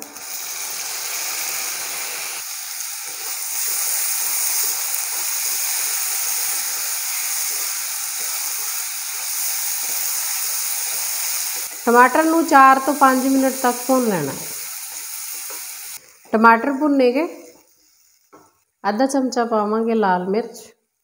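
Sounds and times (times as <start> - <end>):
vegetables sizzling in a pan: 0.0 - 19.1.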